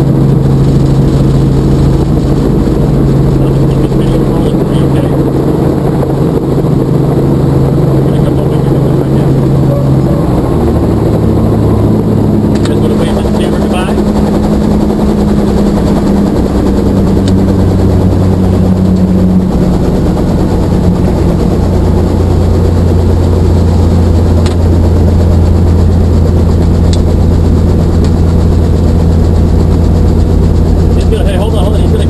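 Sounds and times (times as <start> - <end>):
helicopter engine and rotor: 0.0 - 32.0.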